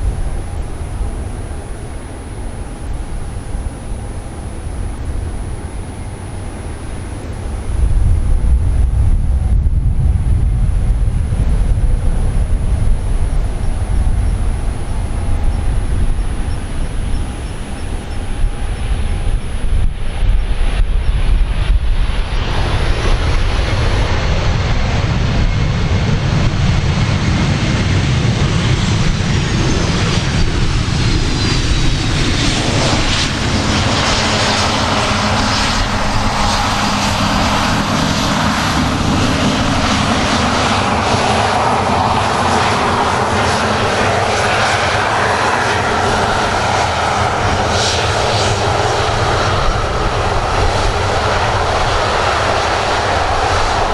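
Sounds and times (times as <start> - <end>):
jet engines landing: 0.0 - 53.9.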